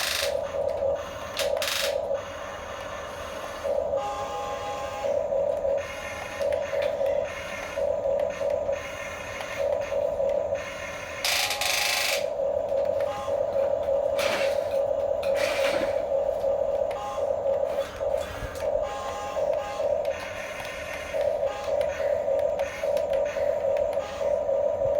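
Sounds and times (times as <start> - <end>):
small electric motors whining: 0.0 - 13.5, 14.2 - 24.9.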